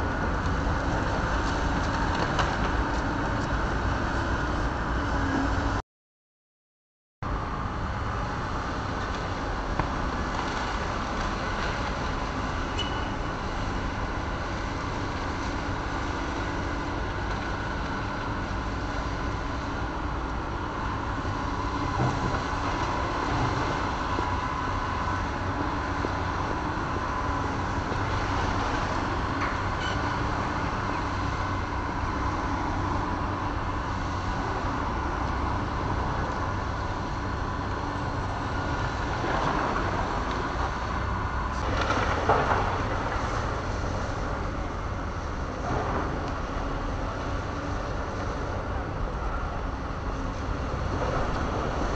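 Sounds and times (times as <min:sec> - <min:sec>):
excavator diesel engine running: 0:07.3 - 0:51.9.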